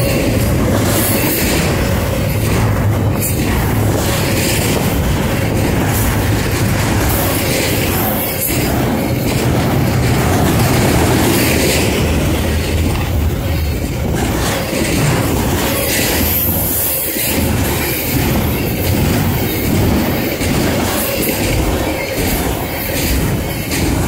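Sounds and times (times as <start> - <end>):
train rumbling past: 0.0 - 24.0
wheels clicking over rails: 0.0 - 24.0.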